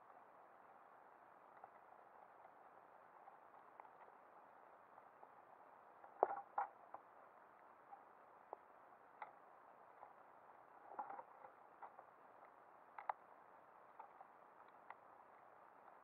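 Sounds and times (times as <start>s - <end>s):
underwater clicks and crackles: 1.4s - 16.0s.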